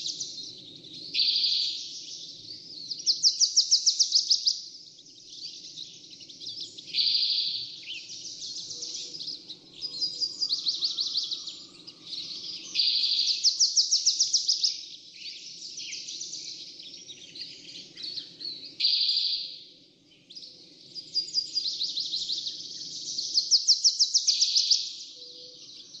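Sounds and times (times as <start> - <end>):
songbirds singing and trilling: 0.0 - 26.0.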